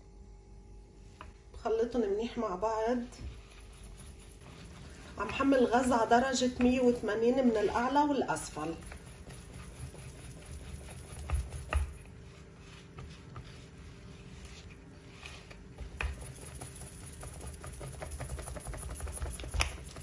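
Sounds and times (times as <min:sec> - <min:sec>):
whisk beating batter in bowl: 0:03.1 - 0:20.0.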